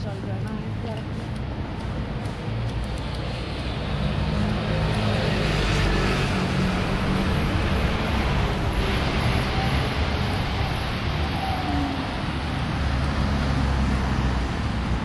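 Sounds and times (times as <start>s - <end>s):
passing traffic: 0.0s - 15.0s
vehicle engine hum nearby: 0.0s - 15.0s.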